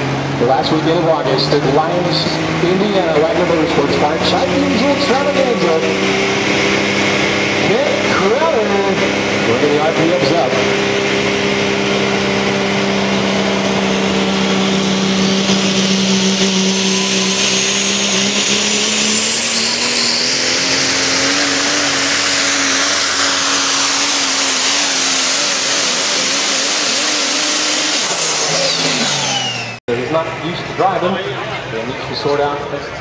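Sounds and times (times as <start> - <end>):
diesel engine at full throttle: 0.0 - 33.0
turbocharger whine: 0.0 - 33.0.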